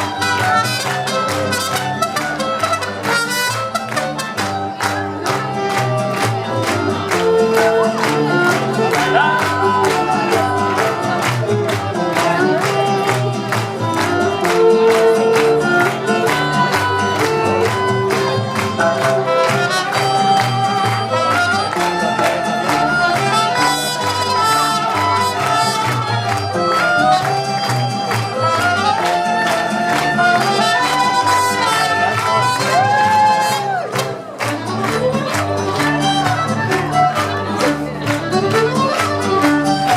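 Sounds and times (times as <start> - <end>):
fast strummed rhythm: 0.0 - 39.9
mariachi band playing: 0.0 - 39.9
violin melody: 0.0 - 39.9.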